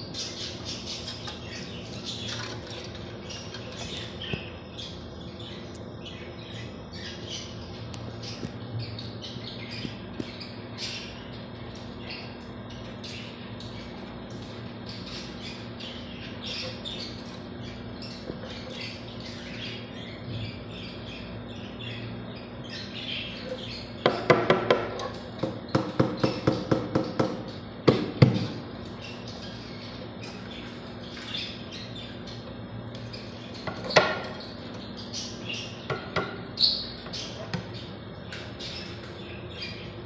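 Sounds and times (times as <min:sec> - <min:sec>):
parrots chirping: 0:00.0 - 0:40.0
steady low hum: 0:00.0 - 0:40.0.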